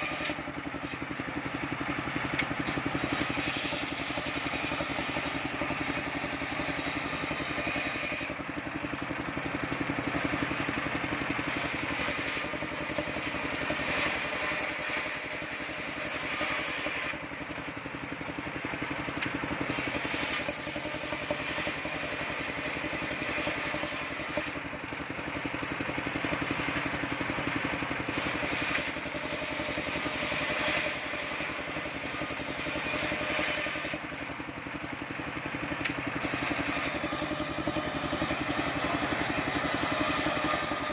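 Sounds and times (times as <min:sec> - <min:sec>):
saw blade cutting wood: 0:00.0 - 0:34.4, 0:35.5 - 0:40.9
engine droning: 0:00.0 - 0:40.9.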